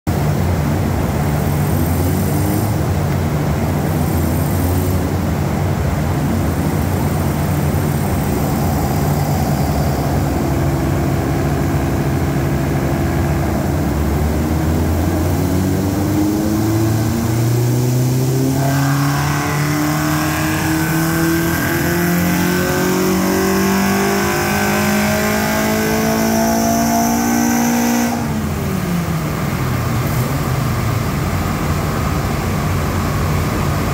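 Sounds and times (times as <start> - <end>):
car engine revving on dyno: 0.1 - 33.9.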